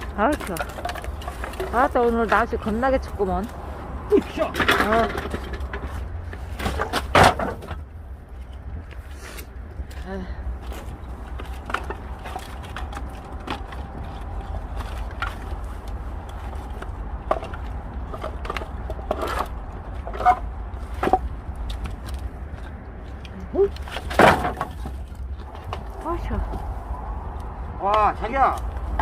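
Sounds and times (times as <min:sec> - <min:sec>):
wood pieces knocking and clattering: 0:00.0 - 0:02.9, 0:04.2 - 0:09.0, 0:10.6 - 0:26.6
steady low rumble: 0:00.0 - 0:29.0.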